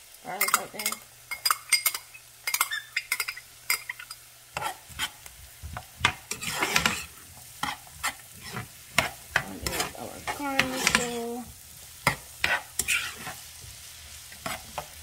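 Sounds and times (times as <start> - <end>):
vegetables sizzling in oil: 0.0 - 15.0
metal spoon stirring and scraping: 0.4 - 5.3, 6.0 - 11.3, 12.0 - 15.0.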